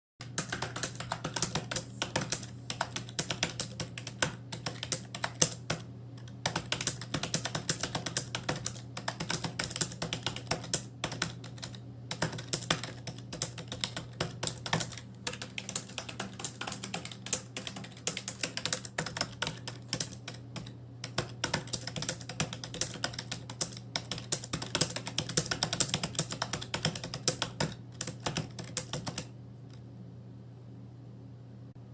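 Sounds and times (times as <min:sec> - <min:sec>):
typing on computer keyboard: 0:00.2 - 0:29.3
steady low hum: 0:00.2 - 0:31.9.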